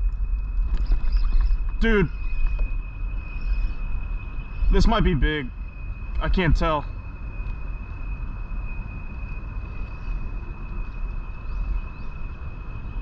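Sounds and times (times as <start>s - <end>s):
high-pitched whine: 0.0s - 13.0s
low outdoor rumble: 0.0s - 13.0s.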